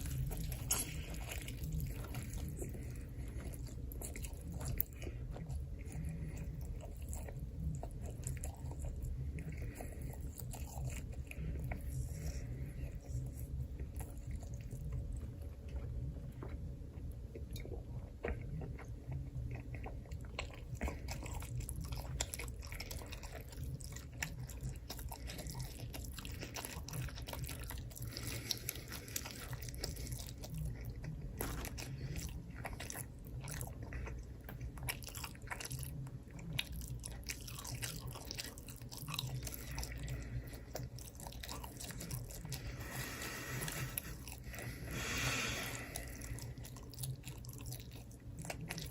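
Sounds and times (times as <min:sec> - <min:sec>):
chewing and crunching: 0:00.0 - 0:48.9
low steady rumble: 0:00.0 - 0:48.9.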